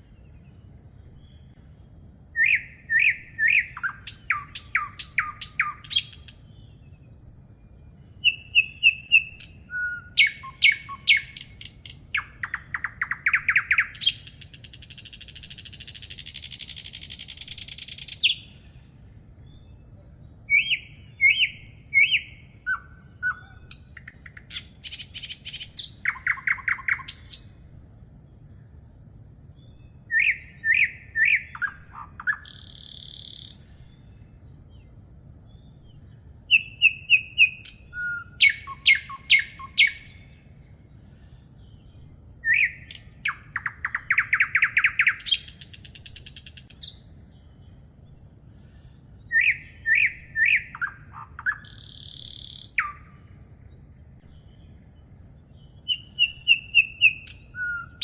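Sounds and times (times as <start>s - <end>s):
small high bird chirps: 0.0s - 27.7s, 28.3s - 58.0s
songbirds singing: 0.0s - 58.0s.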